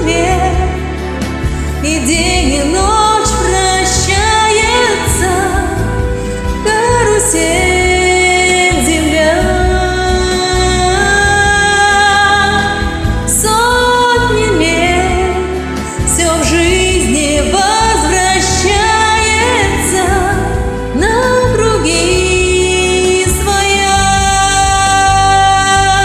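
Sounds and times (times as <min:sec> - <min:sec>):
karaoke backing track: 0:00.0 - 0:26.0
woman singing: 0:00.0 - 0:26.0.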